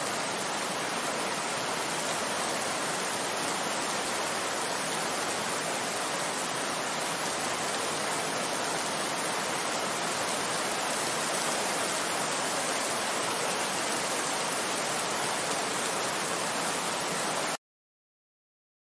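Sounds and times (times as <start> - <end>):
heavy rain falling: 0.0 - 17.6.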